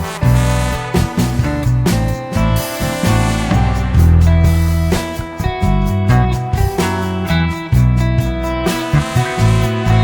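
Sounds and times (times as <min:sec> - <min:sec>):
music with guitar and bass: 0:00.0 - 0:10.0.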